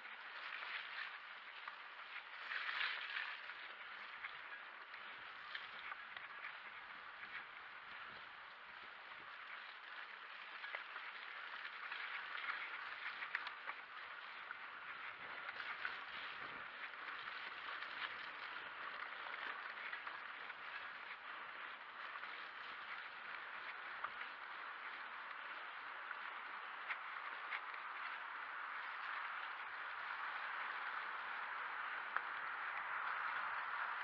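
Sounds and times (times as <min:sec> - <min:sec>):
bike rattling: 0:00.0 - 0:34.0.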